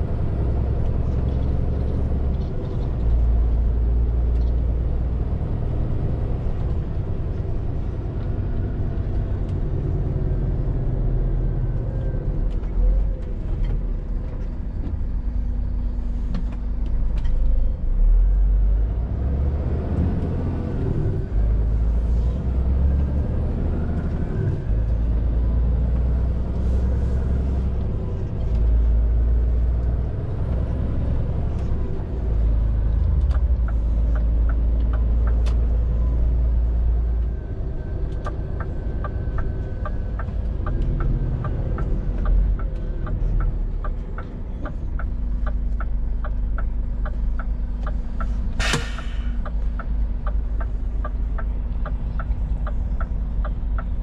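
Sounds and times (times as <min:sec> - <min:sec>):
road noise: 0:00.0 - 0:54.0
truck diesel engine rumble: 0:00.0 - 0:54.0.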